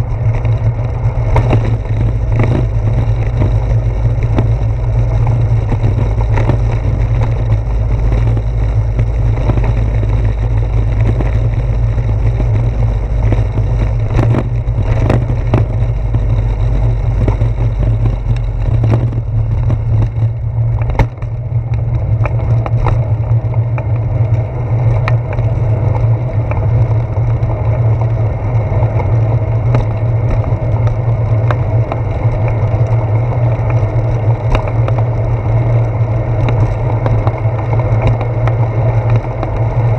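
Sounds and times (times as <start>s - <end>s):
bicycle clicks and knocks: 0.0s - 39.9s
wind and road rumble: 0.0s - 39.9s.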